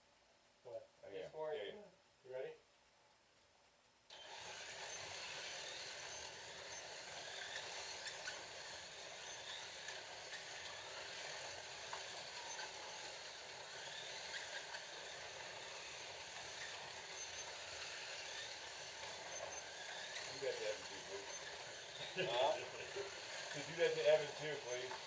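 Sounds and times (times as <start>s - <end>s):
slot cars whirring on track: 4.1s - 25.0s.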